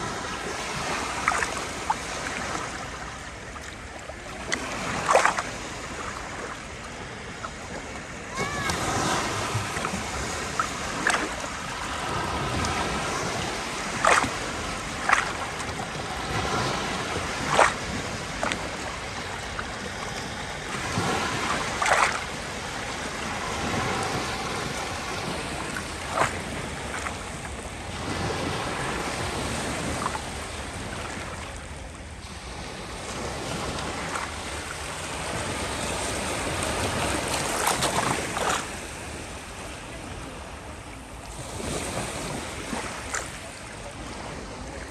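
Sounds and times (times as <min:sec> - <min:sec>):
waves washing in: 0:00.0 - 0:44.9.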